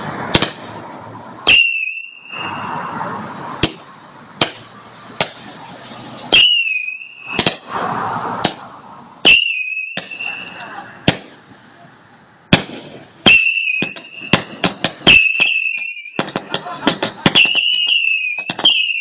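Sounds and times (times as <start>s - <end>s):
fireworks bangs: 0.0s - 11.6s, 12.5s - 19.0s
crackling hiss: 0.0s - 19.0s
firework whistle: 1.4s - 11.4s, 12.5s - 19.0s.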